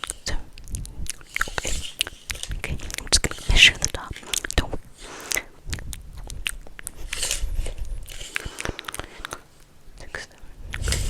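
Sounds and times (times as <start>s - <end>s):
soft crackling: 0.0s - 11.0s.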